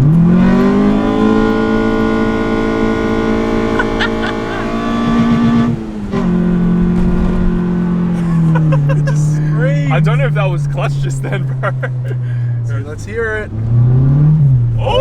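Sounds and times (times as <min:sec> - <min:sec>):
engine intake roar: 0:00.0 - 0:14.7
car engine accelerating hard: 0:00.0 - 0:15.0.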